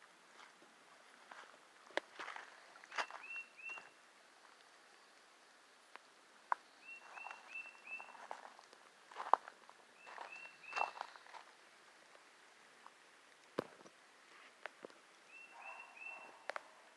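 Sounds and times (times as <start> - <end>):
light footsteps or rustling: 0.3 - 4.8, 6.0 - 15.2.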